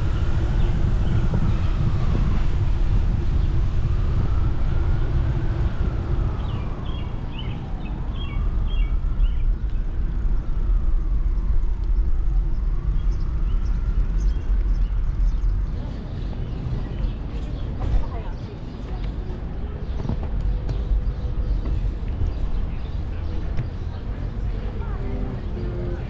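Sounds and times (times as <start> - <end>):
wind and road rumble: 0.0 - 26.0.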